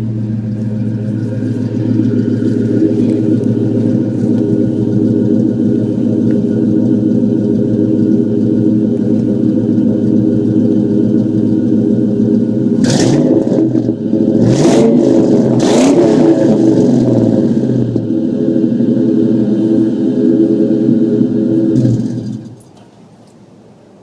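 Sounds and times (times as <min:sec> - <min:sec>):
car engine idling and revving: 0:00.0 - 0:22.8.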